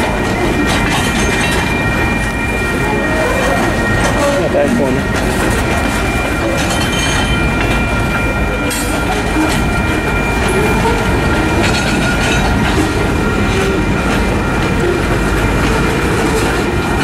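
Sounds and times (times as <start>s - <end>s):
crossing signal bells ringing: 0.0s - 17.0s
freight train wheels clattering: 0.0s - 17.0s.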